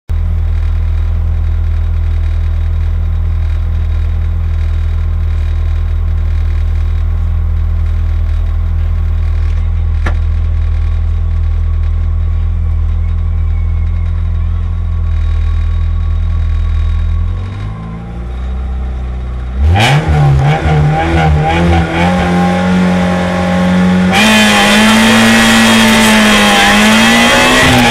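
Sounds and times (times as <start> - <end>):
car engine idling: 0.1 - 27.9.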